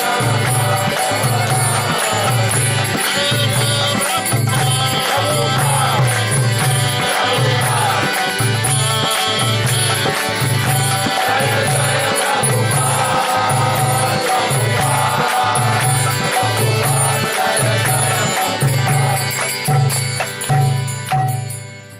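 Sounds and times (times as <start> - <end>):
call-and-response chanting: 0.0 - 20.8
sustained tones: 0.0 - 21.6
drum beating steady rhythm: 0.0 - 21.9
jangling hand percussion: 0.0 - 21.9.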